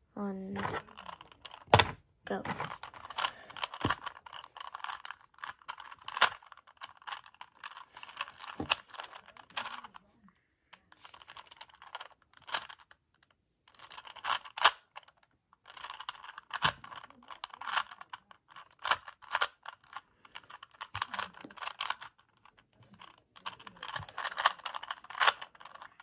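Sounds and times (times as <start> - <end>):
plastic puzzle cube clicking: 0.6 - 10.0, 10.7 - 26.0.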